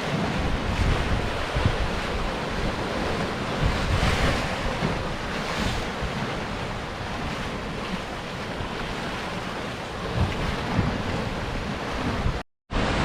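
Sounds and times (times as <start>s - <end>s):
surf breaking against rocks: 0.0s - 13.0s
wind on microphone: 0.0s - 13.0s.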